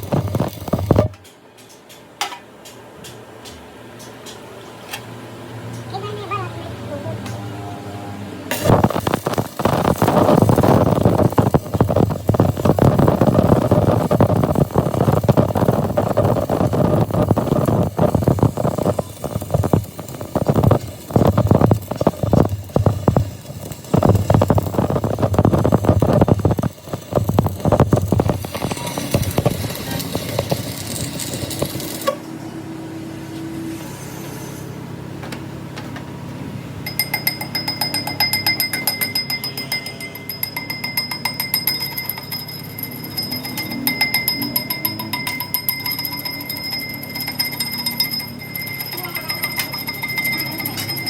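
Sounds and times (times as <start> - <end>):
rough crackling metalworking noise: 0.0 - 6.3, 8.5 - 32.4, 36.8 - 51.0.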